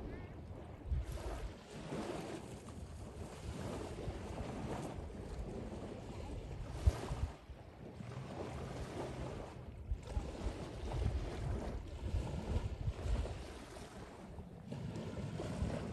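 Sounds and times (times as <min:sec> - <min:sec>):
wind gusting across microphone: 0:00.0 - 0:07.6, 0:08.4 - 0:15.9
sea waves washing: 0:00.0 - 0:15.9.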